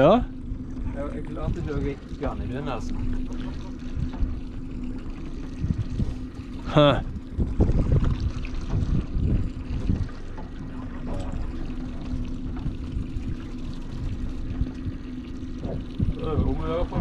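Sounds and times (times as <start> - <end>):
outboard motor idling: 0.0 - 17.0
water slapping against hull: 0.0 - 17.0.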